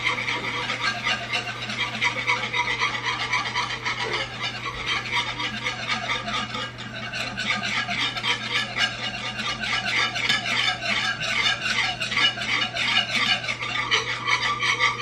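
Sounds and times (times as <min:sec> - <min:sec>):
whisk scraping a pan: 0:00.0 - 0:15.0.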